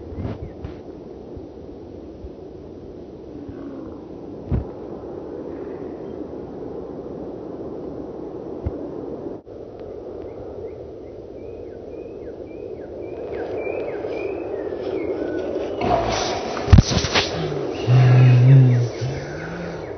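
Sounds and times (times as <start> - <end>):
wind on microphone: 0.0 - 19.9.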